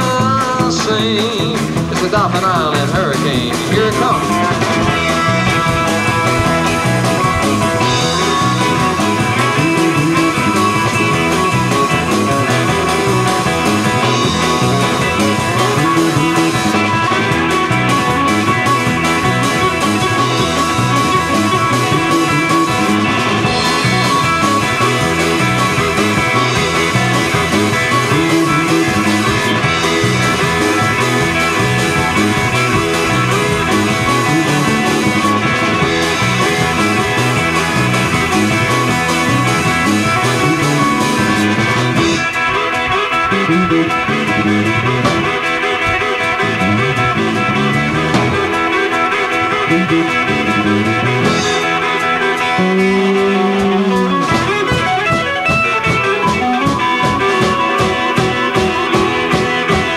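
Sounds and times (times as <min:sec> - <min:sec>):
blues-rock guitar melody: 0:00.0 - 0:59.9.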